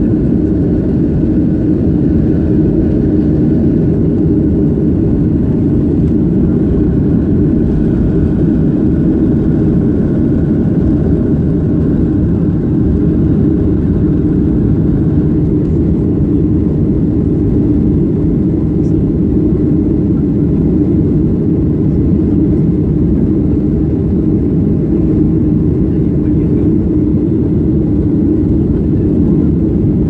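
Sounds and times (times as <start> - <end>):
jet engines at takeoff power: 0.0 - 30.0.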